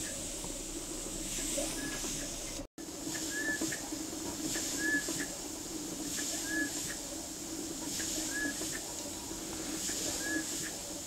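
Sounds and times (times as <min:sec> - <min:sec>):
beam engine running slowly: 0:00.0 - 0:11.0
steady hiss: 0:00.0 - 0:11.0.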